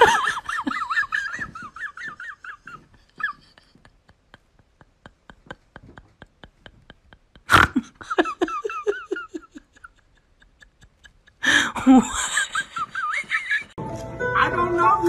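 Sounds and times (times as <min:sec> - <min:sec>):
person laughing: 0:00.0 - 0:13.8.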